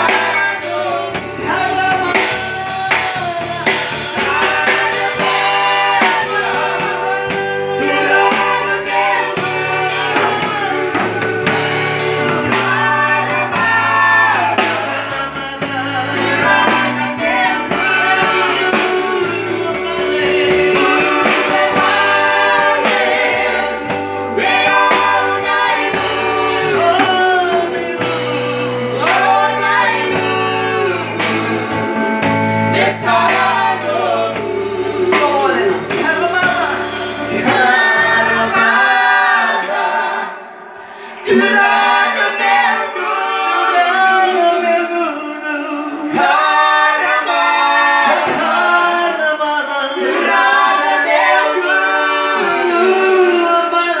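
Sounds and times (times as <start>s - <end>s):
man and woman singing gospel: 0.0s - 54.0s.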